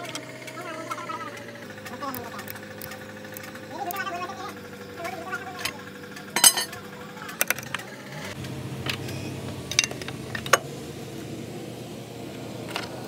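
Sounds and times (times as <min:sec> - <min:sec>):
low steady hum: 0:00.8 - 0:12.6.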